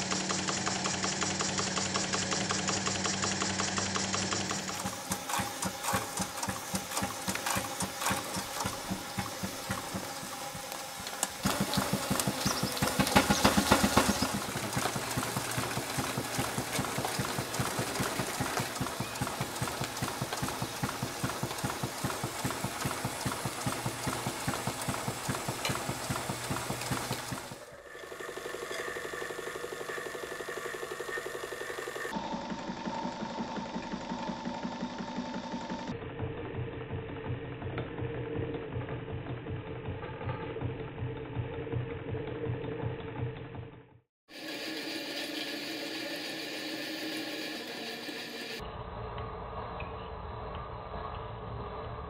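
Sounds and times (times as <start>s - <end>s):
model steam engine running: 0.0s - 43.5s, 44.3s - 49.0s
steam engine exhaust beating: 0.0s - 52.0s.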